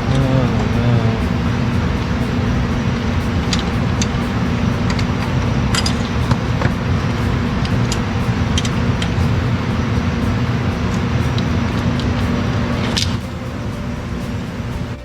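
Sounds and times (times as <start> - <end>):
loud mechanical drone: 0.0 - 15.0.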